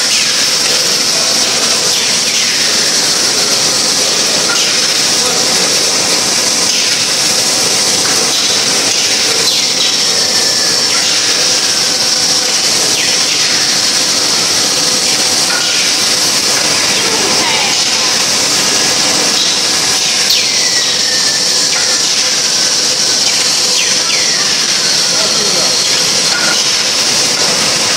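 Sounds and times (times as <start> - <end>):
machine noise with high hiss: 0.0 - 27.9.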